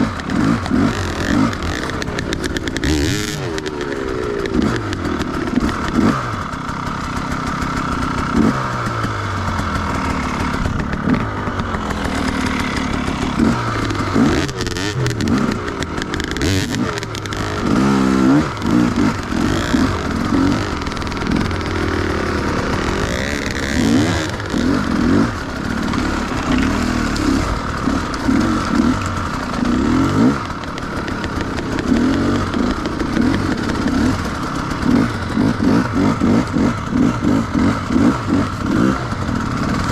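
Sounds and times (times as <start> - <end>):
motorcycle engine revving: 0.0 - 39.9
knocks and clatter: 7.0 - 39.9.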